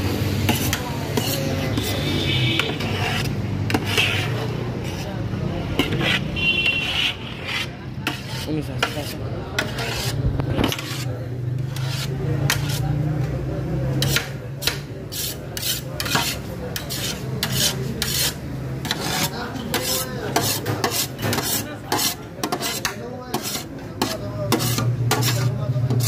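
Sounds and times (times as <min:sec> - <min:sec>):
ladle scraping metal pot: 0:00.4 - 0:12.9, 0:14.0 - 0:26.0.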